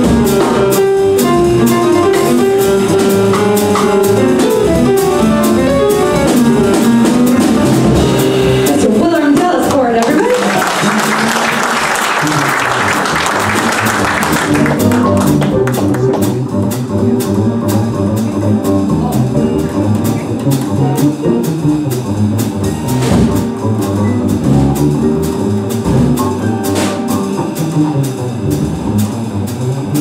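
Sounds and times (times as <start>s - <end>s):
drums on cymbals: 0.0s - 10.0s, 14.6s - 30.0s
piano chords: 0.0s - 30.0s
upright bass line: 0.0s - 30.0s.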